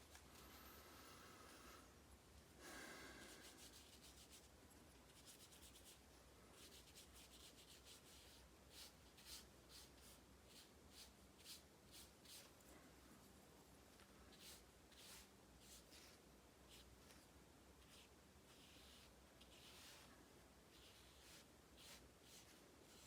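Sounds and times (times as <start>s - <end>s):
low room hum: 0.0s - 23.0s
paintbrush strokes on paper: 2.8s - 12.6s, 13.2s - 23.0s.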